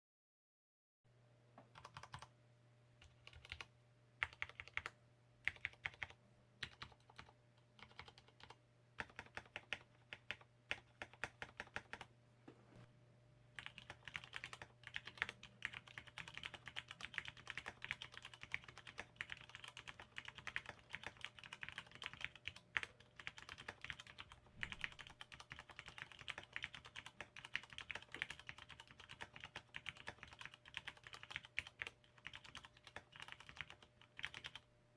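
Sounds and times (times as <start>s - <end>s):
mechanical keyboard typing: 1.7s - 2.3s, 3.0s - 12.1s, 13.6s - 34.7s.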